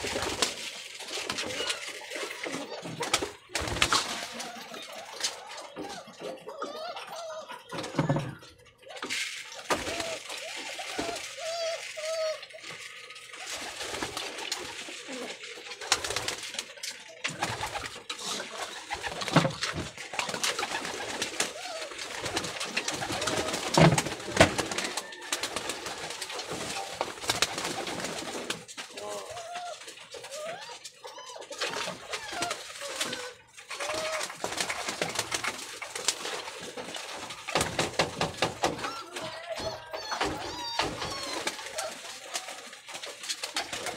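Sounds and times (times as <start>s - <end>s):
birds flapping and knocking in cage: 0.0s - 6.4s, 7.6s - 43.9s
pigeons cooing: 0.0s - 43.9s.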